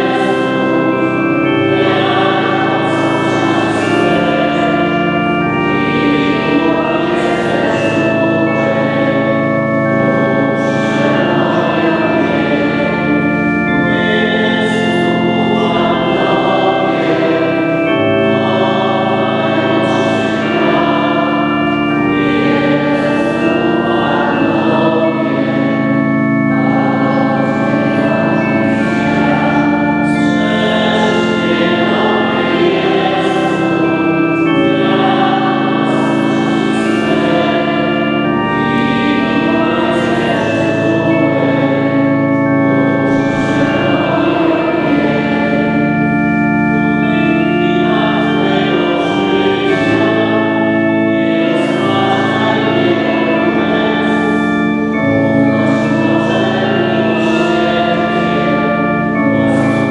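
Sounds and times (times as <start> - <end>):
organ: 0.0 - 59.9
voices singing a hymn: 0.0 - 59.9.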